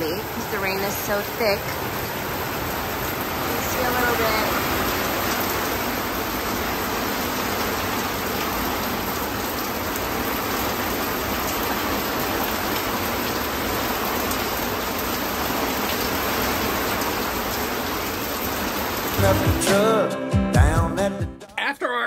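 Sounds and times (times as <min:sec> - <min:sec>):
heavy rain on boat canvas: 0:00.0 - 0:19.7.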